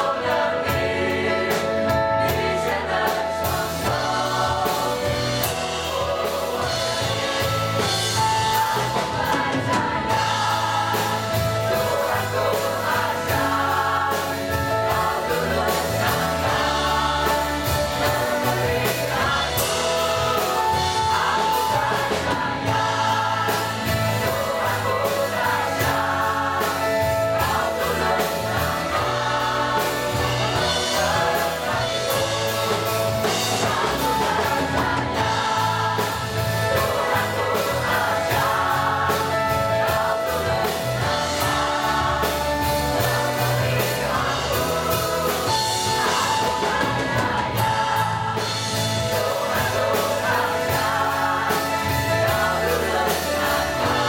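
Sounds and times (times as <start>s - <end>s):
drum kit: 0.0s - 54.0s
electric bass: 0.0s - 54.0s
mixed choir singing: 0.0s - 54.0s.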